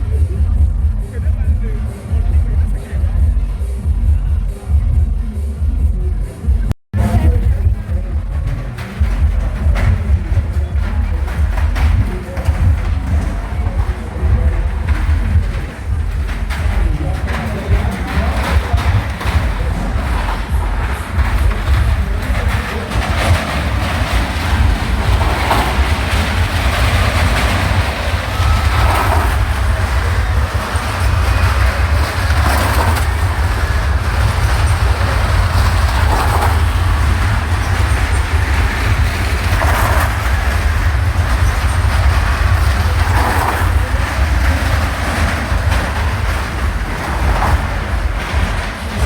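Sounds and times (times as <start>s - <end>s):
motorcycle engine running hard: 7.0s - 49.0s.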